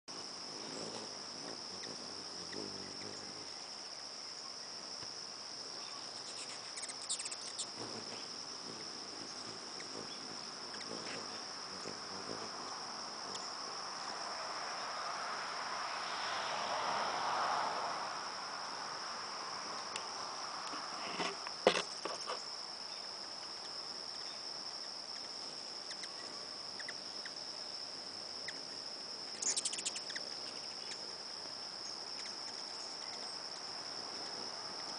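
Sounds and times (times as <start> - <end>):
insect chorus trilling: 0.1 - 34.9.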